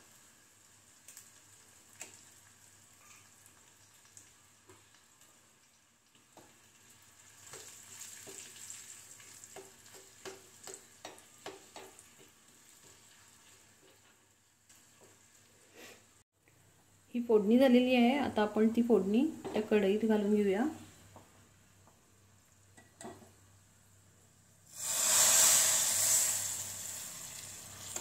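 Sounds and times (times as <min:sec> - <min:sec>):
spices sizzling in a pan: 0:00.0 - 0:16.2, 0:21.0 - 0:28.0.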